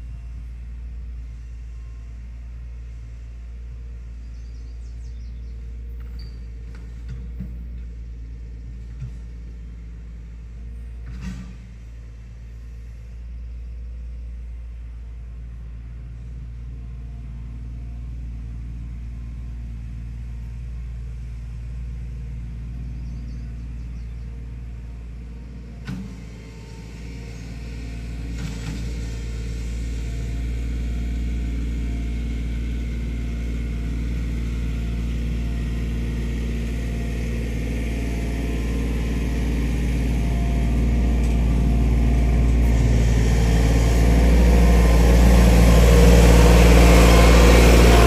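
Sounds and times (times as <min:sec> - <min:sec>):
engine rumbling: 0:00.0 - 0:48.0.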